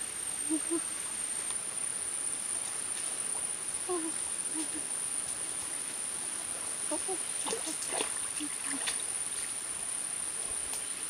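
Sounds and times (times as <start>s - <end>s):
insect high-pitched trill: 0.1s - 10.4s.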